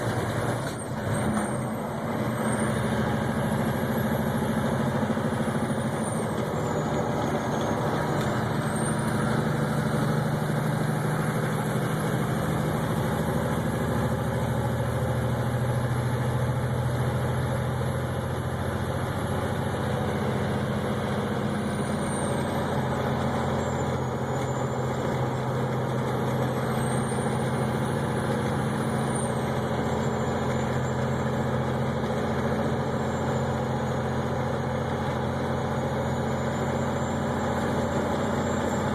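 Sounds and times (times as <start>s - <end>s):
road and tyre noise: 0.0s - 38.9s
vehicle engine running: 0.0s - 38.9s.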